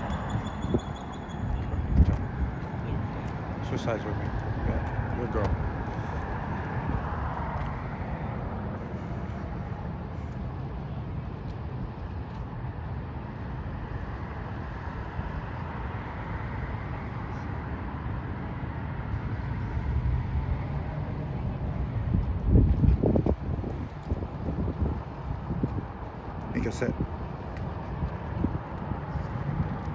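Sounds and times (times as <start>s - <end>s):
low street rumble: 0.0s - 29.9s.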